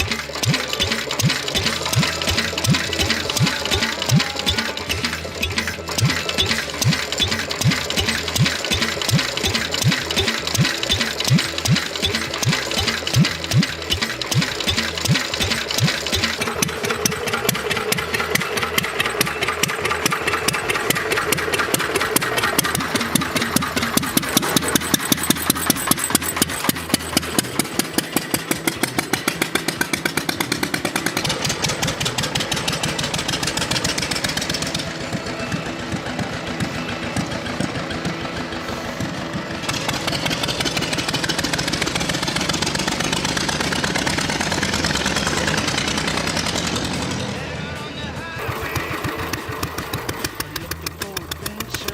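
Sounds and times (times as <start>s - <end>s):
single-cylinder engine running: 0.0s - 51.9s.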